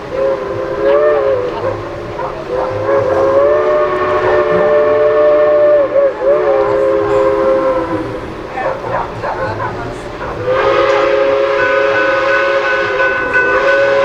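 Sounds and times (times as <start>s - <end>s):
train horn blasts: 0.0s - 14.0s.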